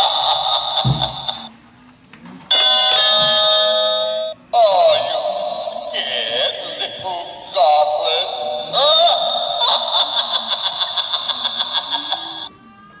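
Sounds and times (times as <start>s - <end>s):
tinny spooky voice-like sound: 0.0s - 1.5s, 2.5s - 12.6s.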